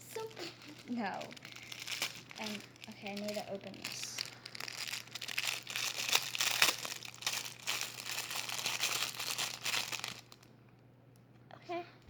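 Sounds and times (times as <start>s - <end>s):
plastic packaging crinkling and tearing: 0.0s - 10.5s.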